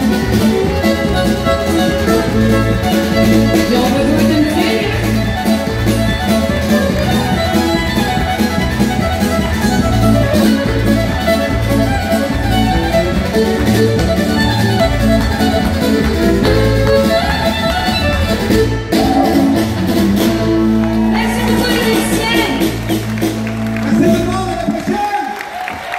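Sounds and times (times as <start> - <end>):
steady beat: 0.0 - 24.5
fiddle melody: 0.0 - 24.8.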